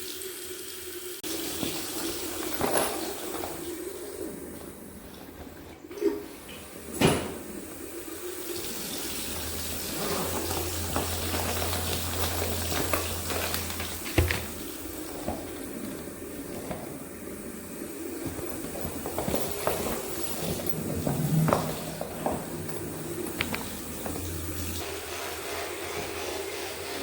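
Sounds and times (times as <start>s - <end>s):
water running: 0.0s - 27.0s.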